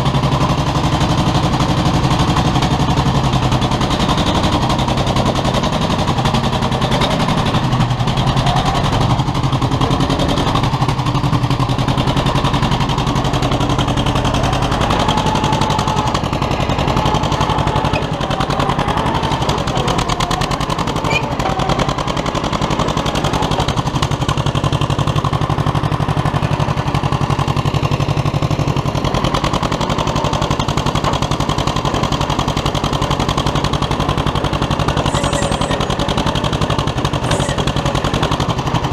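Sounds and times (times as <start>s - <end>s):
dozer engine popping exhaust: 0.0s - 38.9s.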